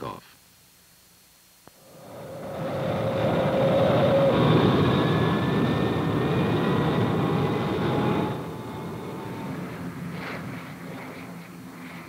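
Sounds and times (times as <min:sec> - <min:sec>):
turbine whines: 0:01.7 - 0:12.0
jet engine rush: 0:01.8 - 0:12.0.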